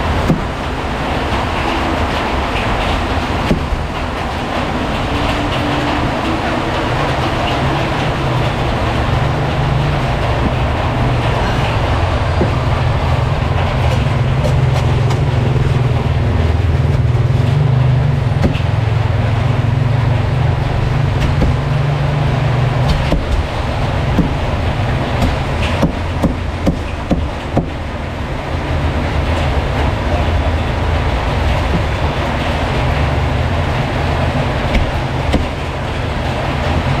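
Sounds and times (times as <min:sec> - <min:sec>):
street traffic rumble: 0:00.0 - 0:37.0.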